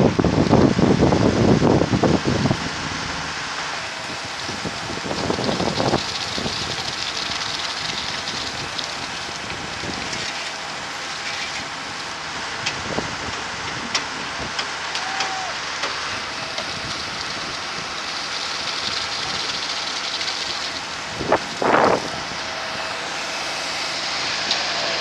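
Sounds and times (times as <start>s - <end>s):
concrete pump machine noise: 0.0s - 25.0s.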